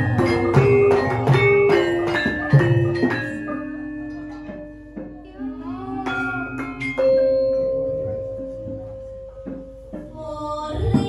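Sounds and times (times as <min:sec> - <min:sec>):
gamelan playing: 0:00.0 - 0:10.2.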